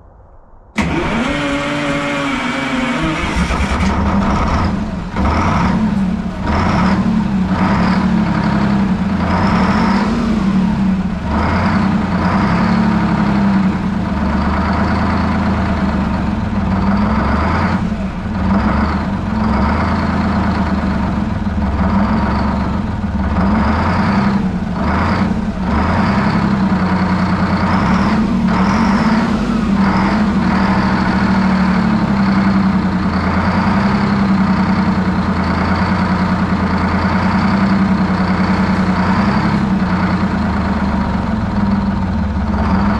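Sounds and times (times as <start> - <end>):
diesel engine fast idle: 0.8 - 42.9.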